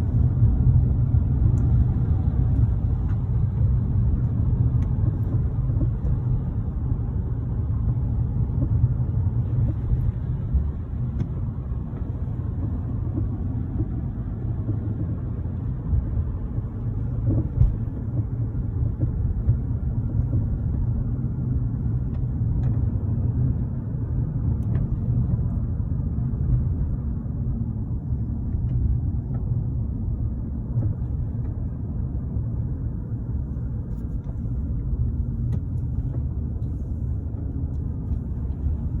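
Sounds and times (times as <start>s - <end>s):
car road and engine rumble: 0.0s - 39.0s.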